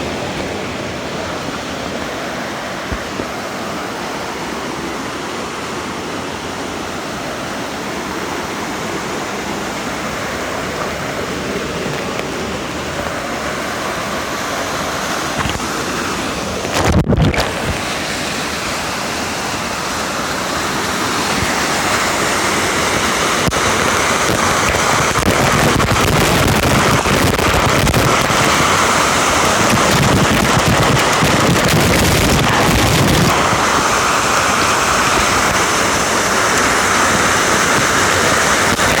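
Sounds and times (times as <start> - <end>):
wind buffet on microphone: 0.0 - 3.6, 9.0 - 39.0
waterfall rushing: 0.0 - 39.0.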